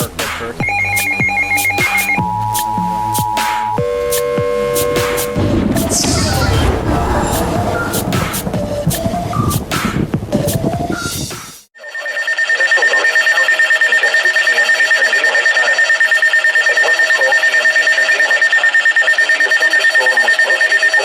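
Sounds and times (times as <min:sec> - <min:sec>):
pulsing electronic alarm: 0:00.6 - 0:09.8, 0:11.8 - 0:21.0.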